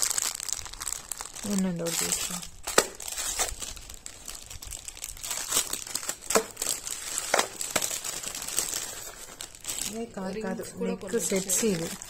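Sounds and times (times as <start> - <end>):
plastic packets crinkling: 0.0 - 12.0.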